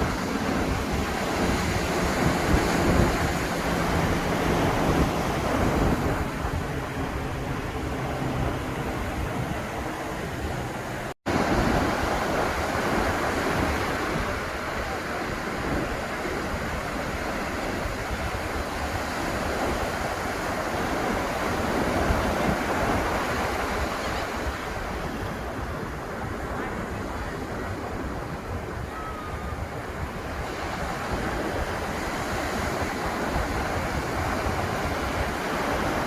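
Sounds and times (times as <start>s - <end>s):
ocean waves washing onto beach: 0.0s - 36.0s
wind on microphone: 0.0s - 36.0s.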